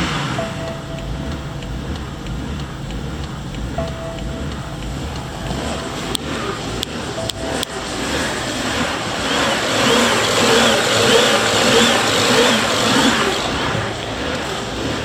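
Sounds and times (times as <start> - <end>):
car engine revving: 0.0 - 15.0
sharp clicks: 0.4 - 8.2, 10.6 - 15.0.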